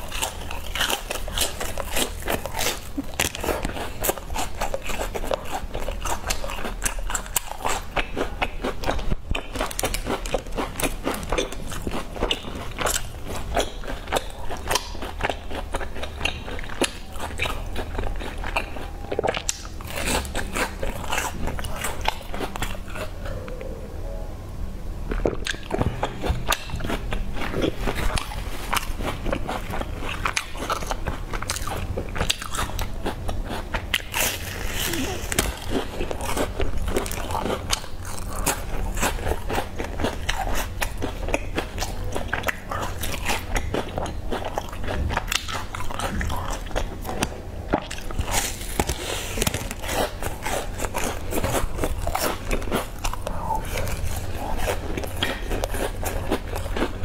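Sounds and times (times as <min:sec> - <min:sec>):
biting and chewing biscuit: 0:00.0 - 0:23.7, 0:25.0 - 0:57.0.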